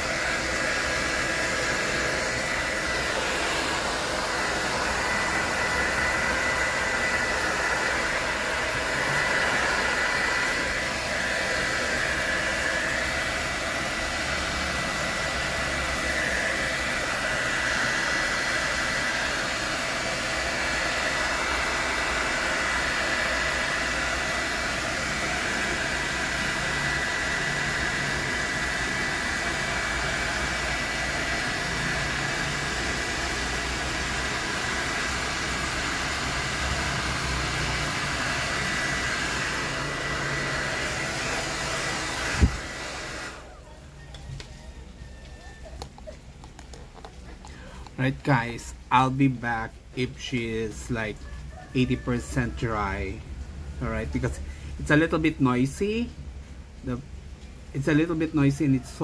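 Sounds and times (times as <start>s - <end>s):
hair dryer blowing with whine: 0.0s - 56.1s, 57.7s - 59.0s.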